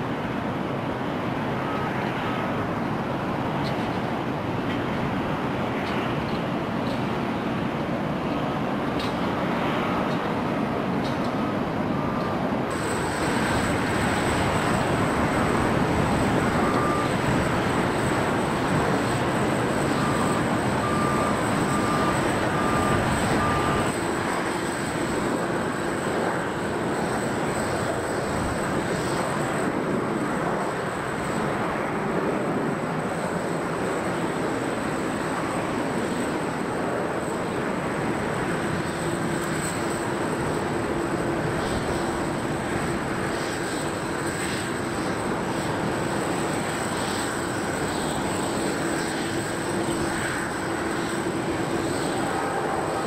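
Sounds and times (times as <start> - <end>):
jet aircraft rush and whine: 0.0 - 53.0.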